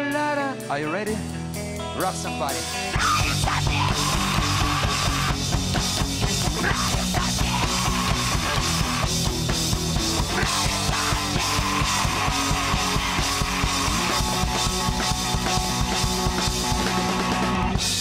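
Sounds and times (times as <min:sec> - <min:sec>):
bass guitar: 0:00.0 - 0:18.0
drum kit: 0:00.0 - 0:18.0
electric guitar: 0:00.0 - 0:18.0.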